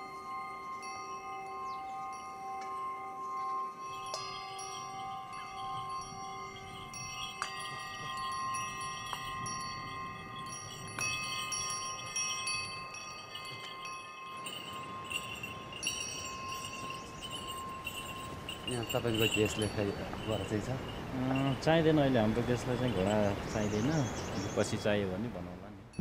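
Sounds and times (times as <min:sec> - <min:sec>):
chimes ringing: 0:00.0 - 0:24.9.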